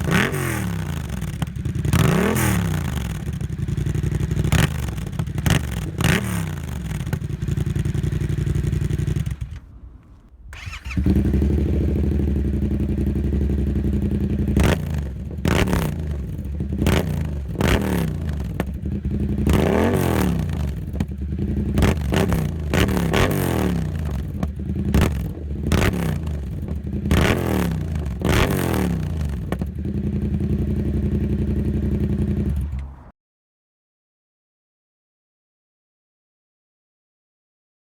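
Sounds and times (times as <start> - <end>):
motorcycle engine revving: 0.0 - 9.7, 10.5 - 33.1.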